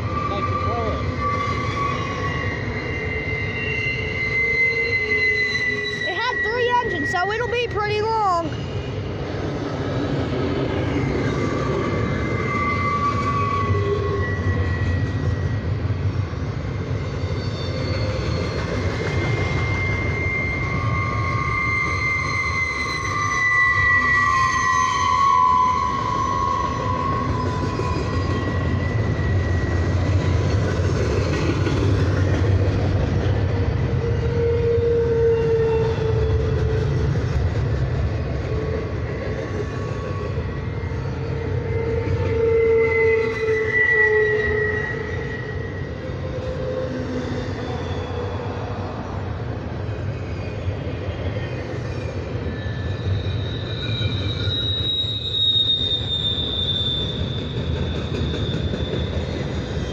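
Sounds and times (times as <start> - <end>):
wheels squealing: 0.0 - 9.0, 10.8 - 16.2, 16.9 - 48.8, 50.1 - 59.9
freight train wheels rumbling: 0.0 - 59.9.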